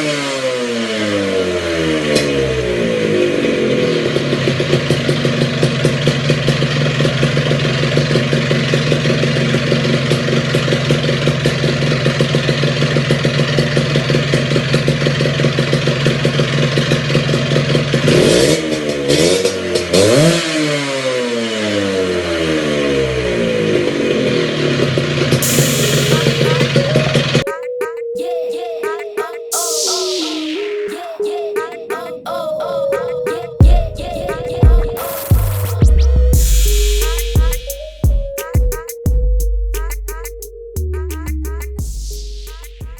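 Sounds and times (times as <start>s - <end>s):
scooter engine idling and revving: 0.0s - 27.4s, 33.6s - 42.9s.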